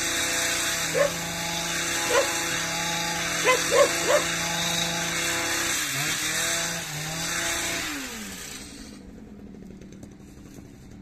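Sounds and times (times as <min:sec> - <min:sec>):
garden power tool running: 0:00.0 - 0:11.0.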